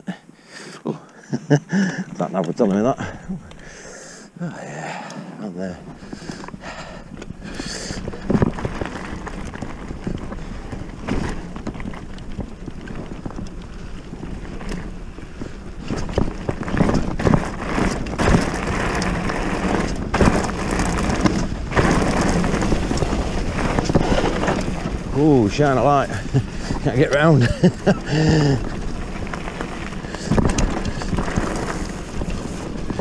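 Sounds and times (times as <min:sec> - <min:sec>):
bike tyres rolling on gravel: 0:00.9 - 0:33.0
bike knocks and rattles: 0:05.8 - 0:33.0.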